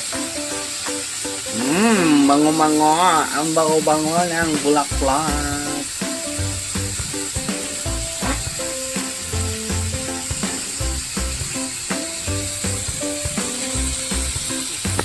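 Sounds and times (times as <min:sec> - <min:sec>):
background music with steady beat: 0:00.0 - 0:15.0
vegetables sizzling in hot oil: 0:00.0 - 0:15.0.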